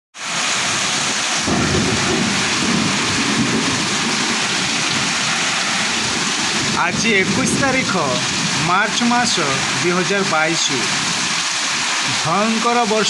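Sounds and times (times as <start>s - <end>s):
heavy rain pouring: 0.2s - 13.0s.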